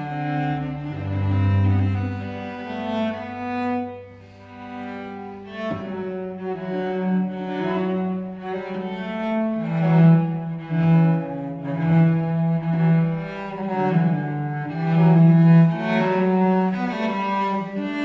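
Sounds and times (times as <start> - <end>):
bowed cello slow low notes: 0.0 - 18.0.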